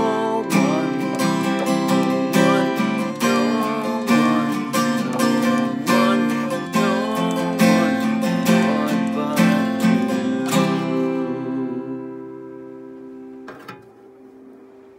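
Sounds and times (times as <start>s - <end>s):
man singing: 0.0s - 12.6s
acoustic guitar strumming: 0.0s - 14.9s.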